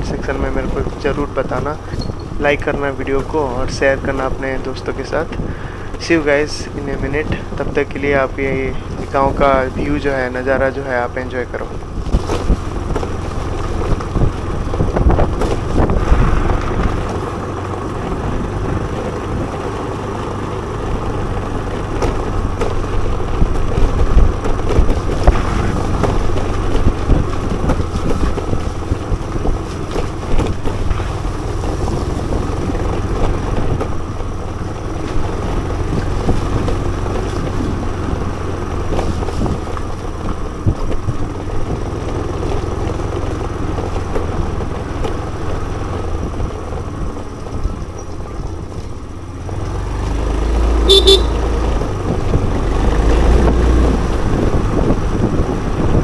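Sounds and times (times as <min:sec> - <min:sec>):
road noise: 0:00.0 - 0:56.0
scooter engine running: 0:00.0 - 0:56.0
wind noise: 0:00.0 - 0:56.0.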